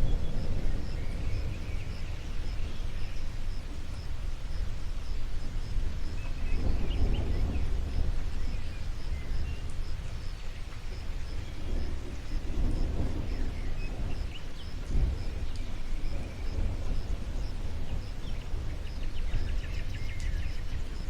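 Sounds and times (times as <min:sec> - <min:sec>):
distant thunder rumble: 0:00.0 - 0:21.0
rain hiss: 0:00.0 - 0:21.0.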